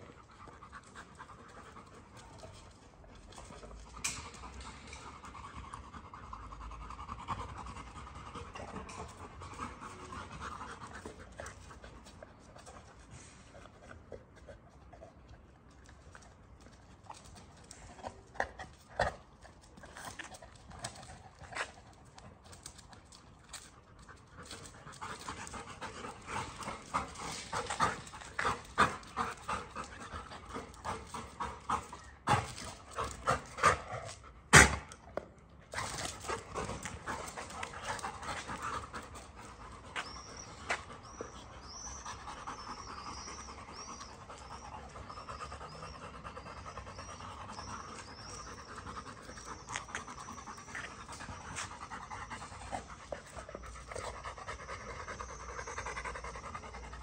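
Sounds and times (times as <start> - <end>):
dogs panting: 0.0 - 34.5, 35.7 - 57.0.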